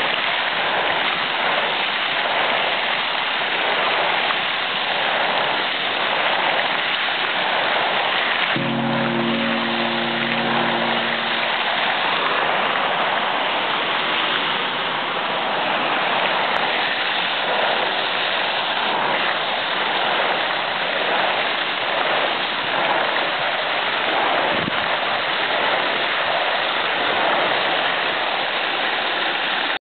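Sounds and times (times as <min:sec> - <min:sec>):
fountain jets splashing: 0:00.0 - 0:29.8.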